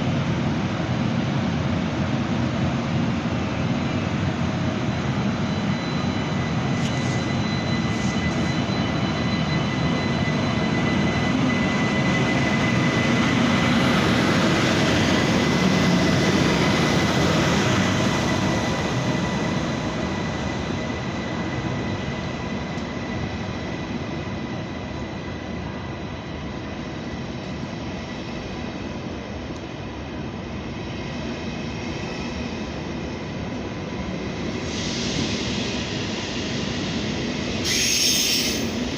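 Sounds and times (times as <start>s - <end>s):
high train tones: 0.0s - 38.9s
train rumbling past: 0.0s - 38.9s.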